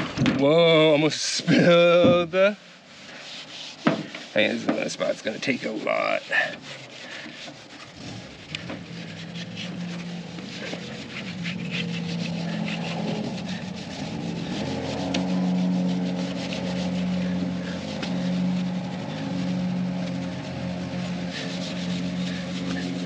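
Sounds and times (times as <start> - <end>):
cloth rag rubbing on metal: 0.6 - 23.0.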